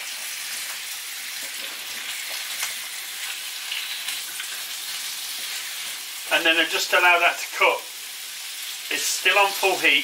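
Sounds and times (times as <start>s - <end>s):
vegetables sizzling in a frying pan: 0.0s - 10.0s.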